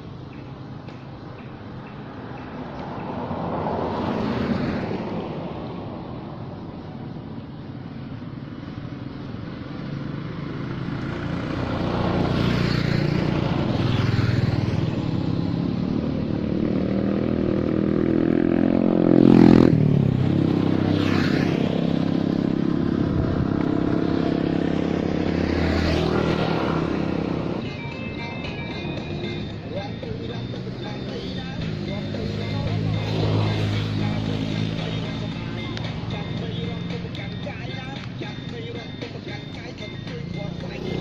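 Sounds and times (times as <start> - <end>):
motorbikes passing: 0.0 - 41.0.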